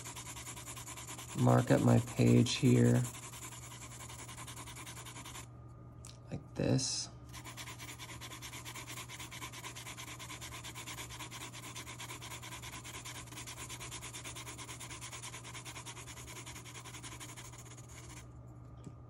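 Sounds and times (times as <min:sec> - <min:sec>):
pencil scratching on paper: 0:00.0 - 0:05.5, 0:07.3 - 0:18.2.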